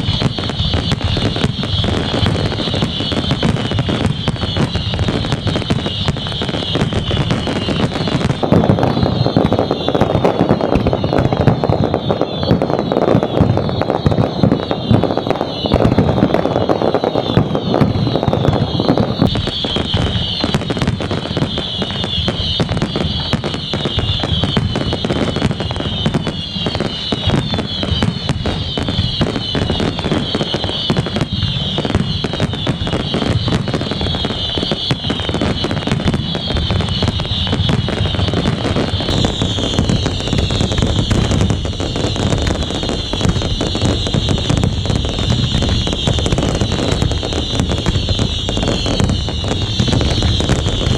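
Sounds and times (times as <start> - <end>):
fireworks crackling and banging: 0.0 - 50.9
whistling fireworks falling in pitch: 0.0 - 50.9.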